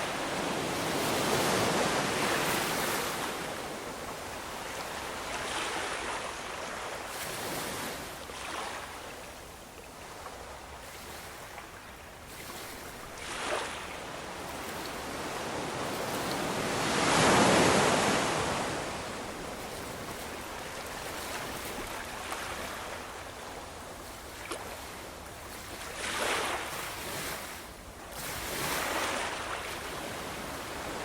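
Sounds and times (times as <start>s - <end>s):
ocean waves breaking ashore: 0.0s - 9.2s, 10.1s - 31.0s.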